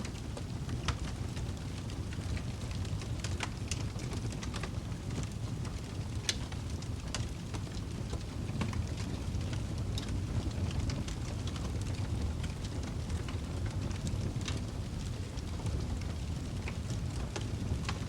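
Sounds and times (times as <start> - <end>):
flames rumbling: 0.0 - 18.0
wood fire crackling and popping: 0.0 - 18.0.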